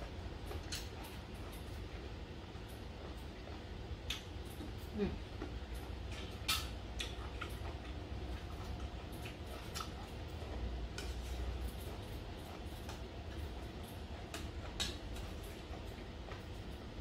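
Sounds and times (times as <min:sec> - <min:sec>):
chewing: 0:00.0 - 0:17.0
steady low hum: 0:00.0 - 0:17.0.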